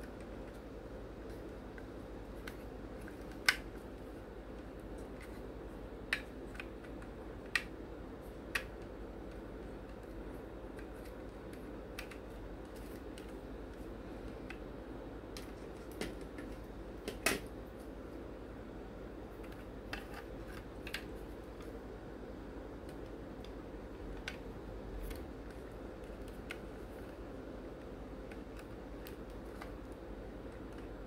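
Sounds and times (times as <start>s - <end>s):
background hum: 0.0s - 31.0s.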